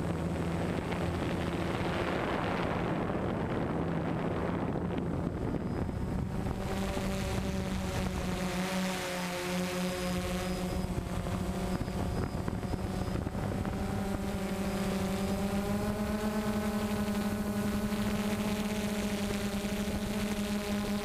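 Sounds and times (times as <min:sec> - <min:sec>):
quadcopter propellers humming: 0:00.0 - 0:21.0.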